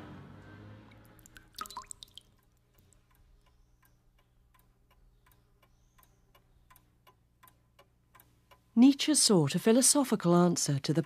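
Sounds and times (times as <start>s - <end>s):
low steady hum: 0.0s - 11.0s
faint regular ticking: 1.3s - 11.0s.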